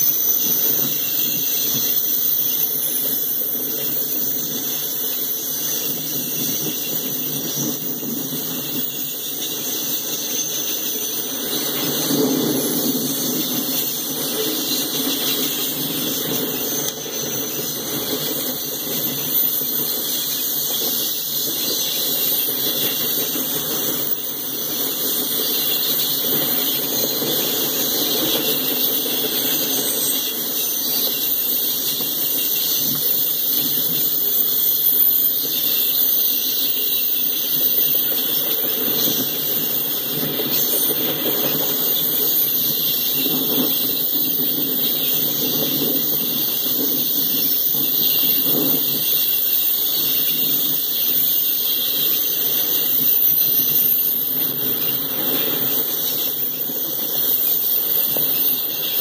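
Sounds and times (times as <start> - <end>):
steel wheels rolling on rails: 0.0 - 59.0.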